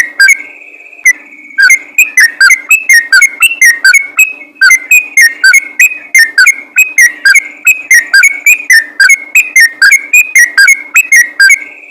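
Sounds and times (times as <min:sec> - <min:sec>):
bird chirping rapidly: 0:01.6 - 0:11.7.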